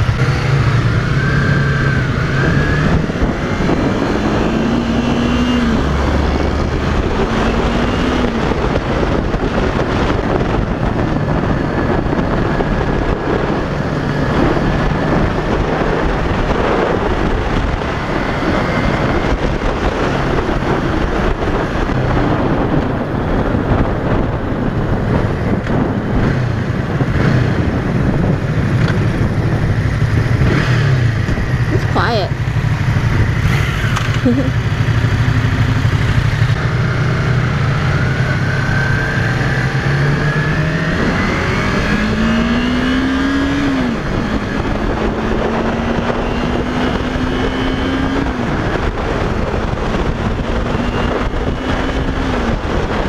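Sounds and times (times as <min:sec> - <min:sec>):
motorcycle engine revving: 0:00.0 - 0:53.0
wind noise on microphone: 0:00.0 - 0:53.0.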